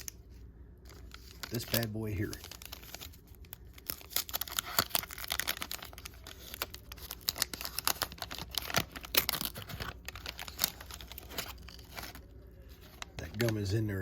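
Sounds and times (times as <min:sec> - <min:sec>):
wrapper tearing and crinkling: 0:00.9 - 0:13.7.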